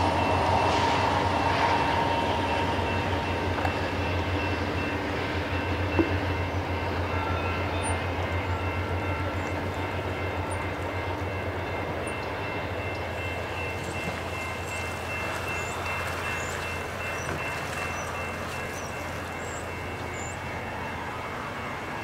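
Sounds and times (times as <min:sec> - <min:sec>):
coaches rolling over rails: 0:00.0 - 0:22.0
diesel locomotive drone: 0:00.0 - 0:22.0.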